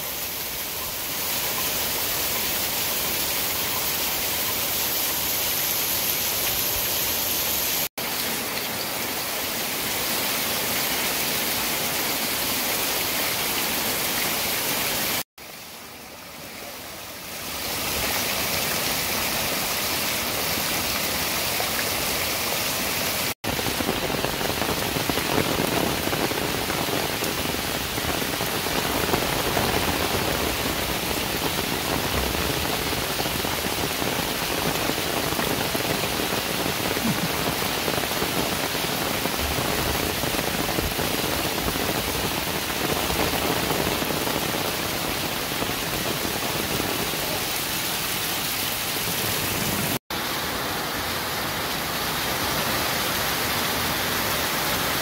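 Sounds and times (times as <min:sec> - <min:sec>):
heavy rain hissing: 0:00.0 - 0:55.0
water streaming off roof: 0:00.0 - 0:55.0.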